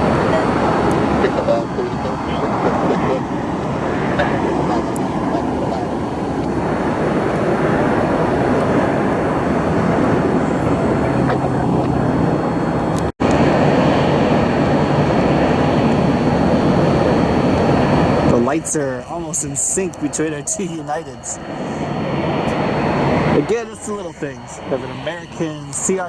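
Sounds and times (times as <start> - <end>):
faint high whine: 0.0 - 26.0
jet engine rush: 0.0 - 26.0.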